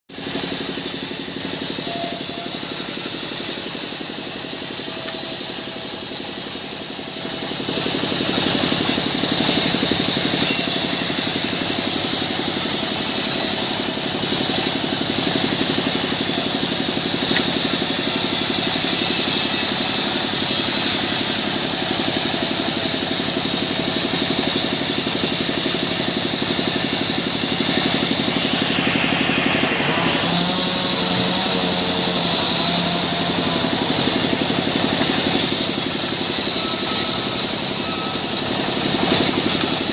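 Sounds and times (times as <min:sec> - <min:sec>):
sawmill saw cutting log: 0:00.1 - 0:39.9.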